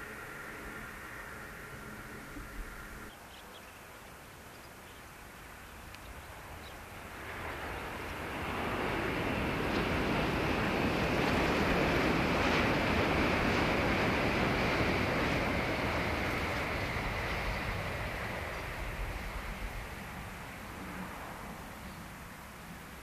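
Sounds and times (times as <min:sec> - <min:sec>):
high-speed train rushing: 0:00.0 - 0:03.1, 0:06.2 - 0:23.0.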